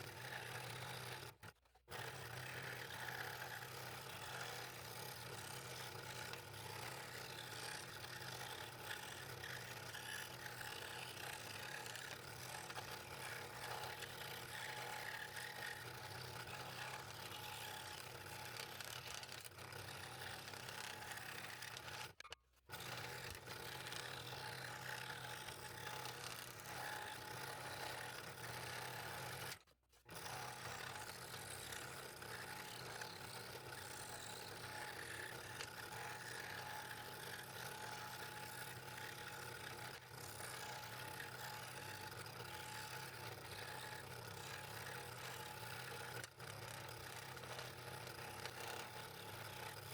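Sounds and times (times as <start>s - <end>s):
scroll saw motor hum: 0.0s - 49.9s.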